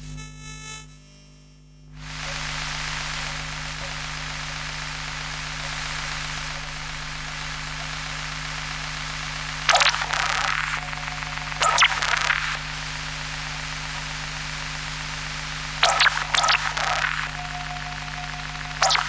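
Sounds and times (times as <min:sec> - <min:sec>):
static hiss with low hum: 0:01.9 - 0:19.0
faint electronic tones: 0:02.0 - 0:19.0.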